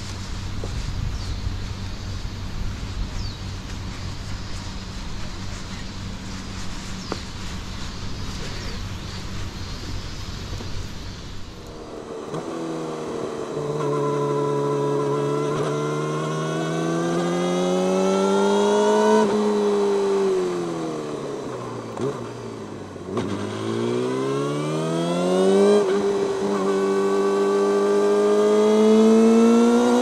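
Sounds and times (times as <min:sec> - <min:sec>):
motorcycle engine revving: 0:00.0 - 0:30.0
road and wind noise: 0:00.0 - 0:30.0.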